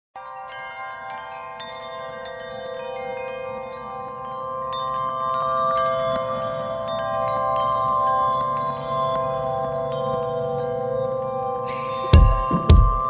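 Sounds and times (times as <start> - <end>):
ringing chime tones: 0.2 - 13.0.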